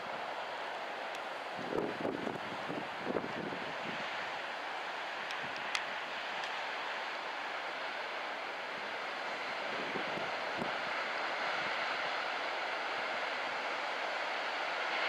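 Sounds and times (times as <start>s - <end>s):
strong wind: 0.0s - 14.8s.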